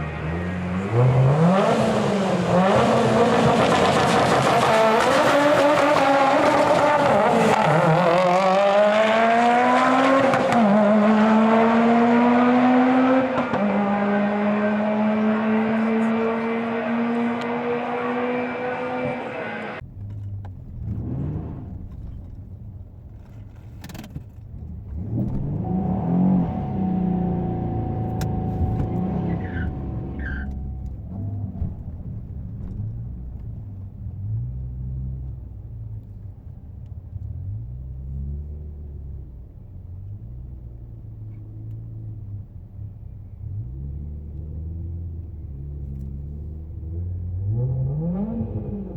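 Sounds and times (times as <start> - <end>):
car engine revving: 0.0 - 23.5, 24.2 - 48.9.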